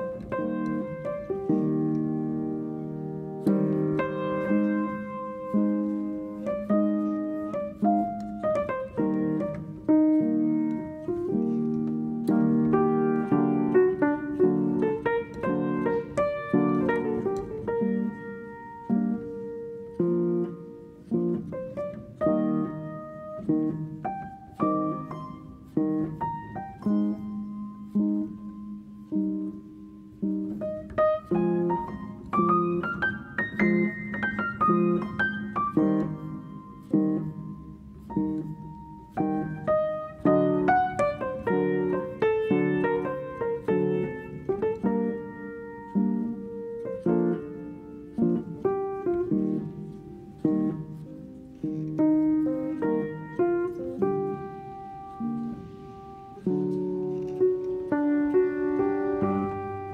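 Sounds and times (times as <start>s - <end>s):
slow piano music: 0.0s - 59.9s.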